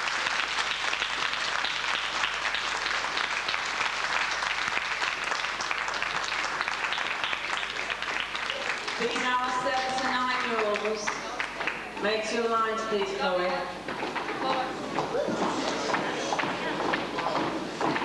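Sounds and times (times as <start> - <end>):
audience applauding: 0.0 - 12.0, 14.1 - 18.0.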